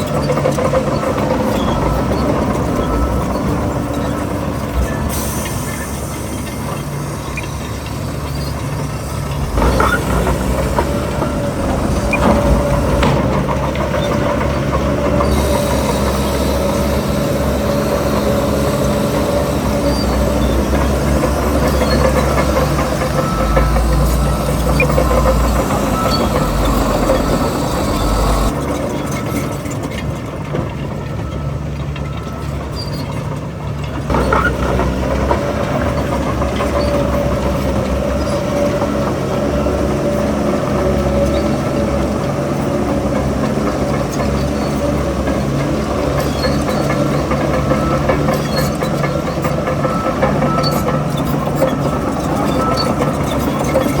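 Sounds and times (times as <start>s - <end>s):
heavy diesel engine rumble: 0.0s - 54.0s.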